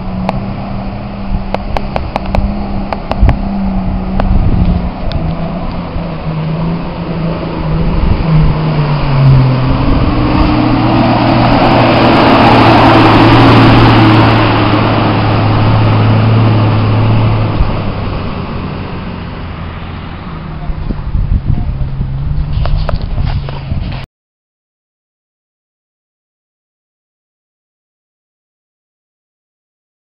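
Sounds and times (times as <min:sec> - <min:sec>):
water rushing and splashing: 0:00.0 - 0:24.0
off-road vehicle engine: 0:00.0 - 0:24.1.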